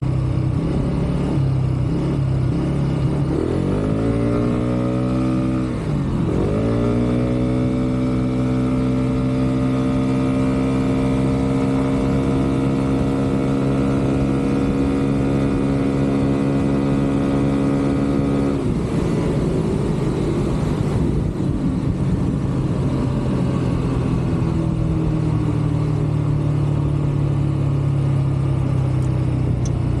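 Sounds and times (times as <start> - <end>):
scooter engine revving: 0.1 - 30.0.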